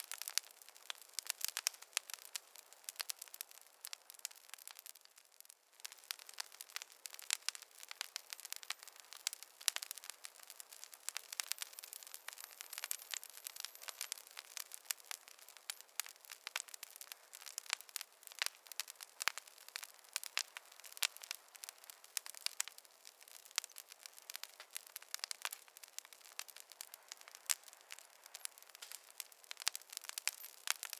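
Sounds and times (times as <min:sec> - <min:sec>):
campfire crackling: 0:00.0 - 0:30.9.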